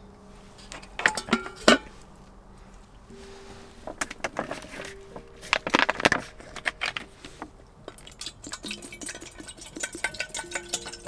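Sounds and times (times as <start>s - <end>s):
metal cookware clinking: 0.0s - 11.0s.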